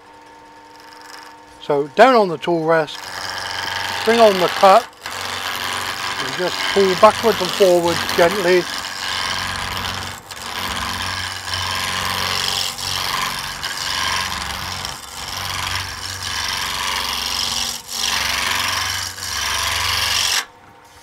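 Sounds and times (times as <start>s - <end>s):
lathe humming: 0.7s - 20.5s
gouge shaving wood: 2.0s - 20.5s.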